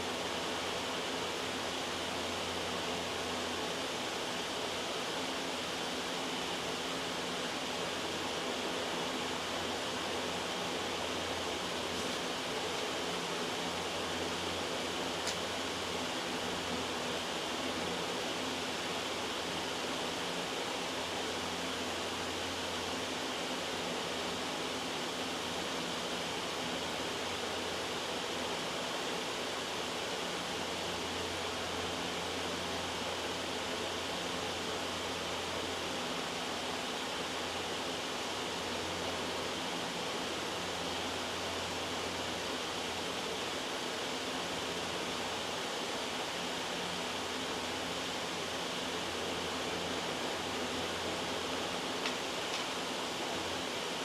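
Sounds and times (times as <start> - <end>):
loud white noise hiss: 0.0 - 54.0.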